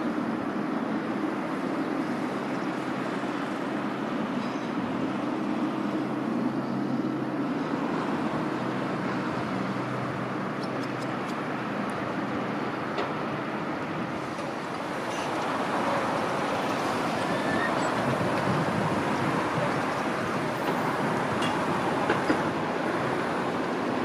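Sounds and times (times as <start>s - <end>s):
jet engines at low thrust: 0.0s - 24.0s.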